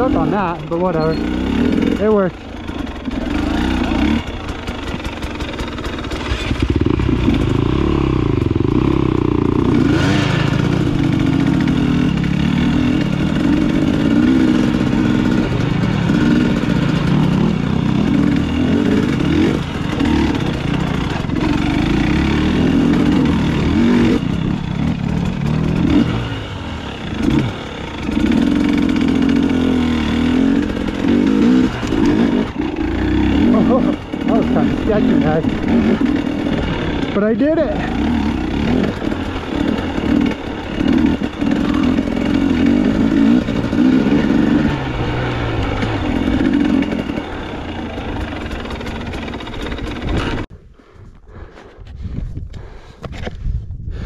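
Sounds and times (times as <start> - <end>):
dirt bike engine revving: 0.0 - 50.5.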